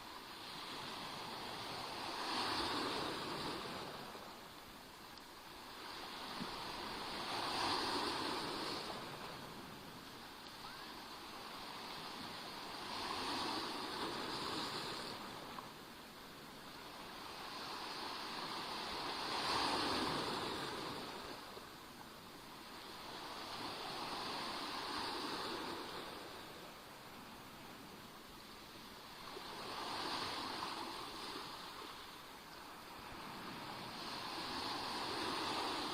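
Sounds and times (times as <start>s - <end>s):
small waves washing on shore: 0.0s - 35.9s.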